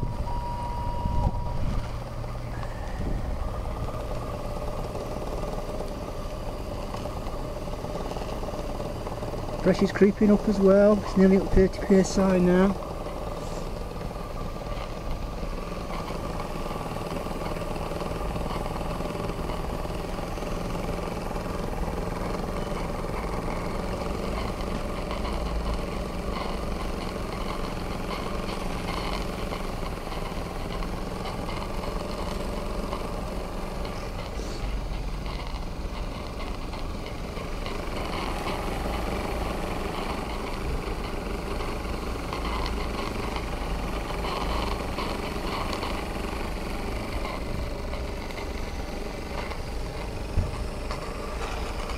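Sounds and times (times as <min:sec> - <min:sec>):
model steam engine running: 0:02.1 - 0:51.9.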